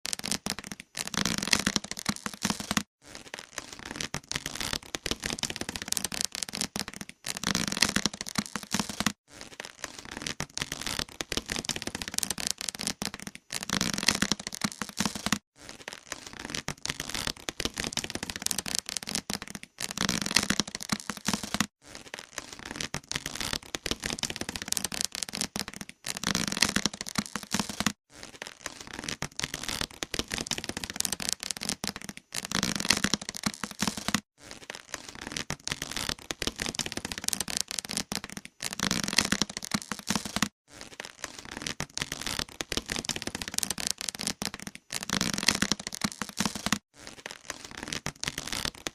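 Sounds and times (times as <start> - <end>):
dense crackling and cracking: 0.0 - 48.9.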